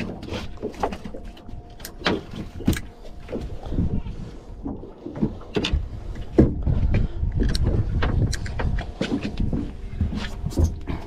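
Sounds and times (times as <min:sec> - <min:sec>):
water lapping against boat hull: 0:00.0 - 0:11.0
wind rumble on microphone: 0:00.0 - 0:11.0.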